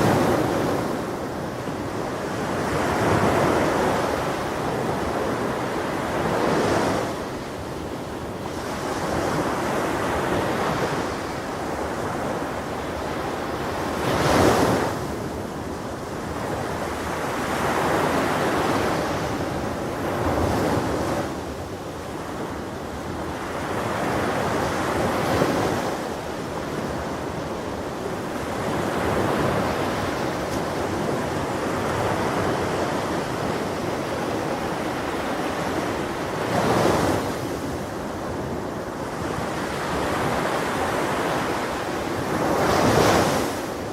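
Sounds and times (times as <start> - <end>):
ocean waves breaking on shore: 0.0 - 43.9
wind noise on microphone: 0.0 - 43.9.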